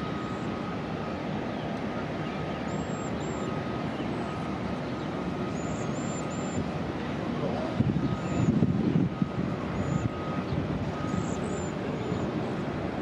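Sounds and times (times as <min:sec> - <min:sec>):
bus diesel engines rumbling: 0:00.0 - 0:13.0
faint steady whine: 0:00.0 - 0:13.0.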